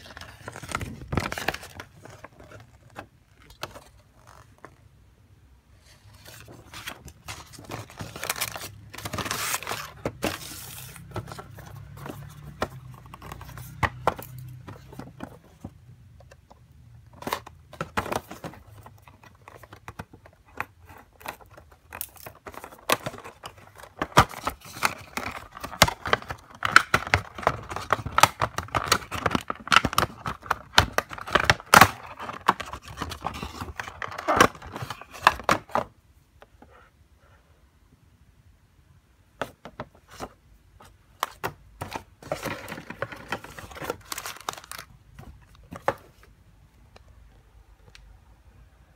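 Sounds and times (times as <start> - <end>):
cardboard and plastic packaging crinkling: 0.0 - 4.7, 5.8 - 16.4, 17.1 - 35.9, 39.4 - 46.3.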